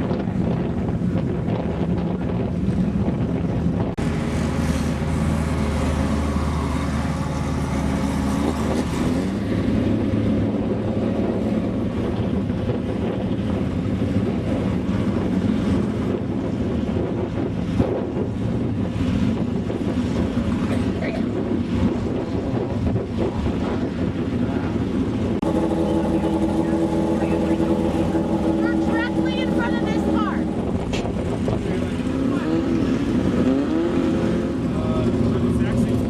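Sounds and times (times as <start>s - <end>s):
off-road vehicle engines running: 0.0s - 36.0s
wind buffeting microphone: 0.0s - 36.0s.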